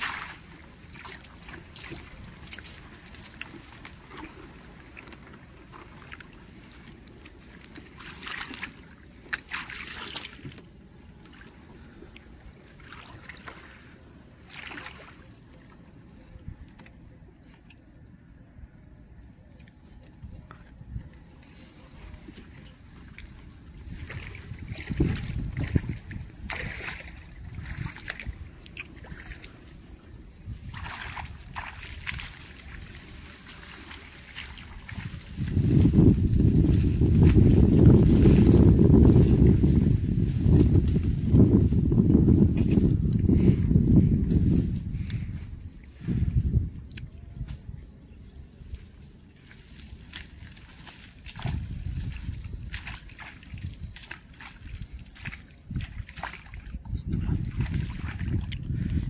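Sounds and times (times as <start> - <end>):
water splashing against boat hull: 0.0 - 18.2, 19.7 - 43.6, 49.4 - 59.0
low steady rumble: 0.0 - 59.0.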